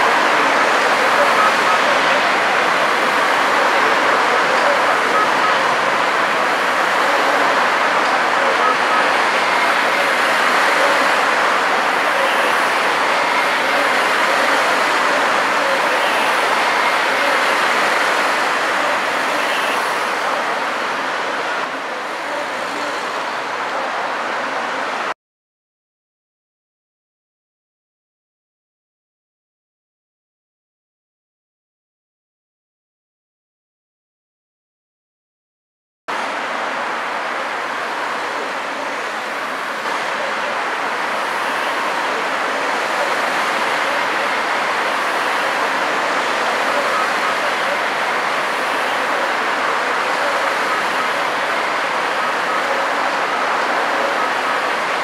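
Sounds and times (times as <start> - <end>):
city street traffic: 0.0 - 25.2, 36.1 - 55.0.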